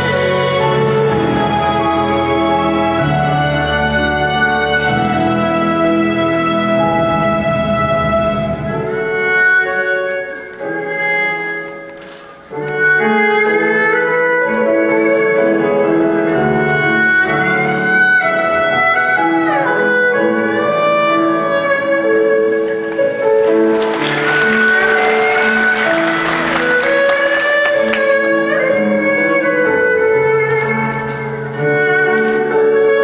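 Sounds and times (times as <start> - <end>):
bowed fiddle slow melody: 0.0 - 33.0
low accompaniment: 0.0 - 33.0.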